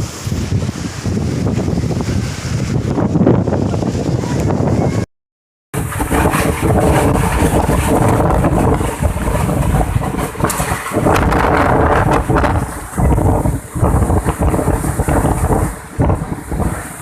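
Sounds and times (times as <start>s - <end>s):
wind buffeting microphone: 0.0s - 5.1s, 5.8s - 17.0s.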